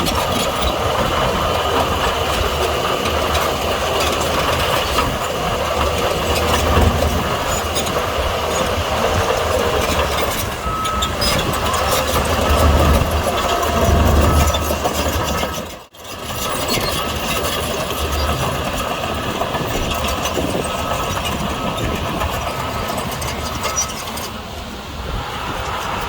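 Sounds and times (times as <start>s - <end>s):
heavy machinery diesel engine running: 0.0s - 26.0s.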